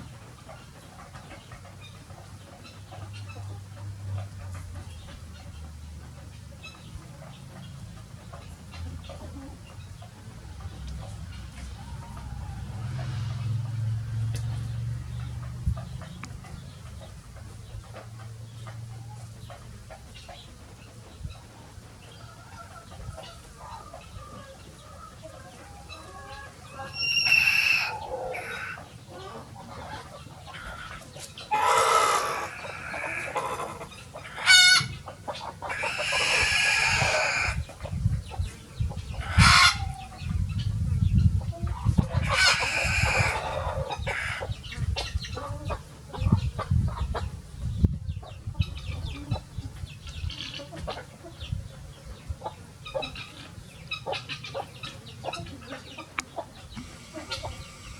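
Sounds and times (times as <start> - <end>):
hens clucking: 0.0 - 57.9.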